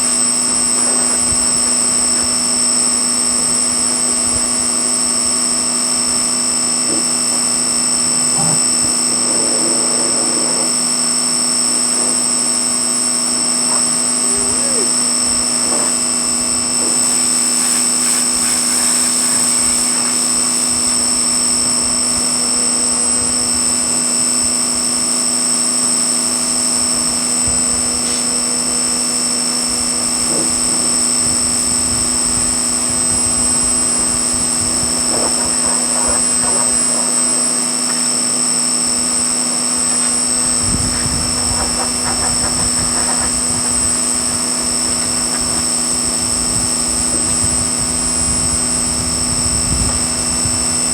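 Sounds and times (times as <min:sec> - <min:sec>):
pressure washer high whine: 0:00.0 - 0:50.9
pressure washer motor drone: 0:00.0 - 0:50.9.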